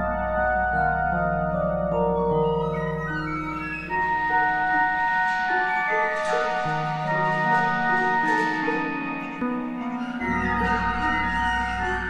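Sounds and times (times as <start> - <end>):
film score of held notes: 0.0 - 12.0.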